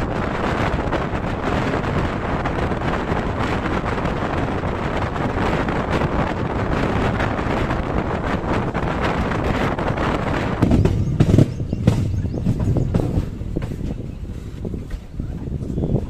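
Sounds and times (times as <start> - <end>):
train wheels on rails: 0.0 - 16.0
wind buffeting microphone: 0.0 - 16.0.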